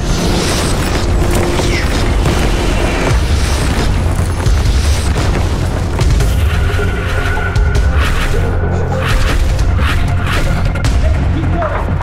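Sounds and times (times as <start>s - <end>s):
dramatic music score: 0.0s - 12.0s.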